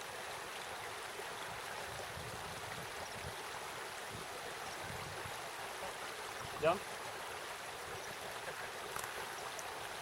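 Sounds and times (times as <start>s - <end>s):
stream running water: 0.0s - 10.0s.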